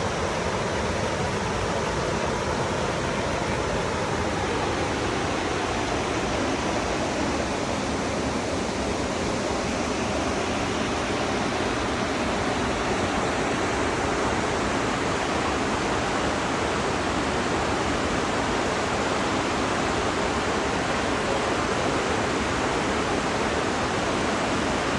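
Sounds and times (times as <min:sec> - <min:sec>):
water rushing: 0:00.0 - 0:24.9.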